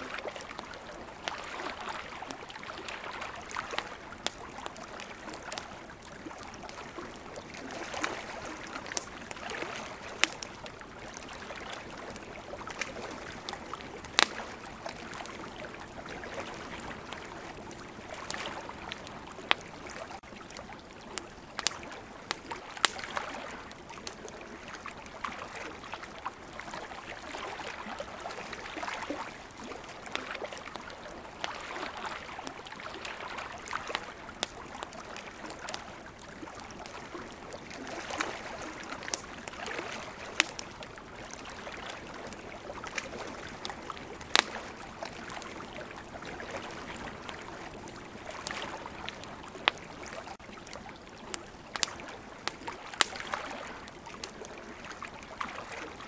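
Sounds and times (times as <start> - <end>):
ocean waves: 0.0 - 20.2, 21.6 - 51.0, 51.7 - 56.0
campfire crackling: 0.0 - 56.0.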